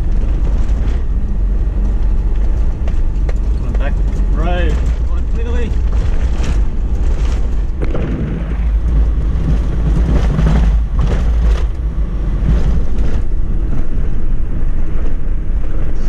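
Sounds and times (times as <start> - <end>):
vehicle knocking over bumps: 0.0 - 15.7
off-road vehicle rumbling: 0.0 - 16.0.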